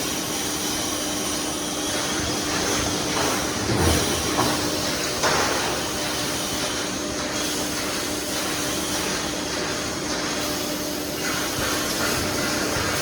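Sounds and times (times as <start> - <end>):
welding machine running: 0.0 - 13.0.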